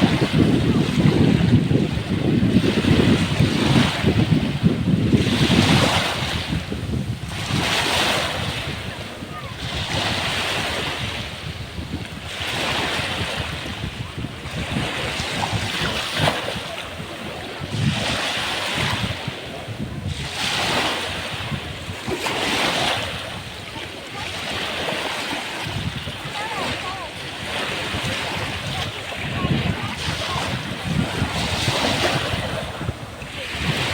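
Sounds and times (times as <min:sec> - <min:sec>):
surf breaking on beach: 0:00.0 - 0:33.9.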